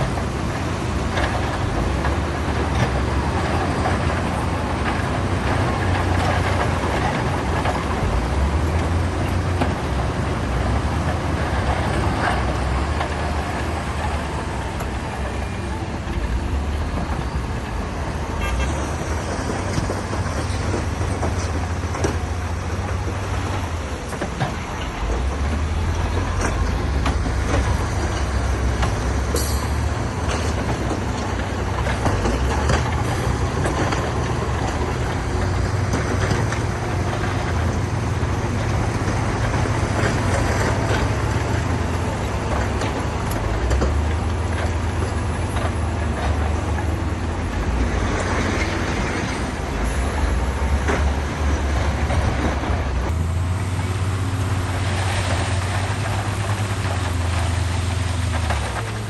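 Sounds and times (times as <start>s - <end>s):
heavy diesel machinery rumbling: 0.0s - 59.0s.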